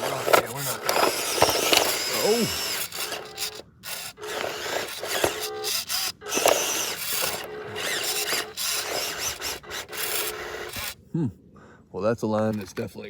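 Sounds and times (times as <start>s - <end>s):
small electric motor whining: 0.0s - 11.0s
wheels scrabbling and grinding on rock: 0.0s - 11.0s.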